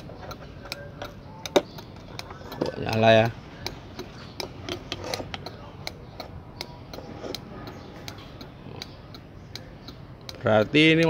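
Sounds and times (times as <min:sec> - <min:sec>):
turn-signal relay clicking: 0:00.0 - 0:11.0.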